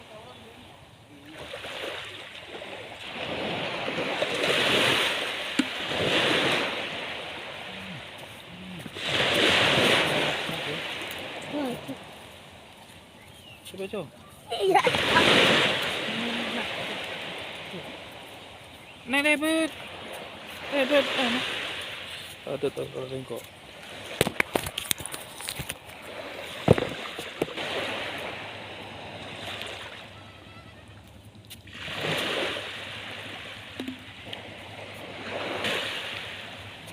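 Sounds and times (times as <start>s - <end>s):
sea waves washing onto shore: 0.0s - 13.1s, 14.6s - 36.9s.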